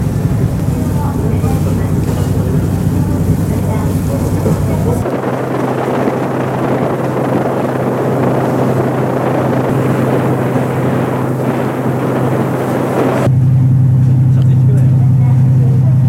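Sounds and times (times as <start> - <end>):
water rushing: 0.0 - 13.3
wind rushing: 0.0 - 13.4
ferry engine hum: 0.0 - 16.0.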